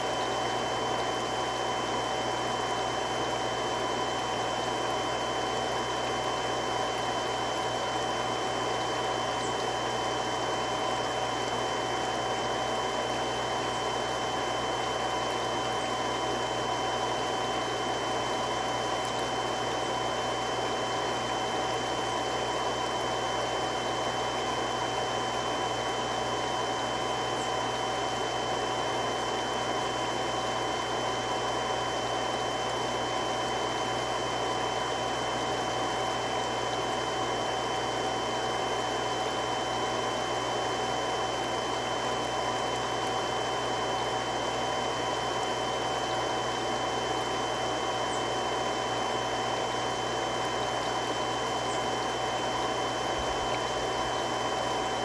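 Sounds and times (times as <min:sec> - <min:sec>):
pump whining tones: 0:00.0 - 0:55.0
water pump rushing: 0:00.0 - 0:55.0.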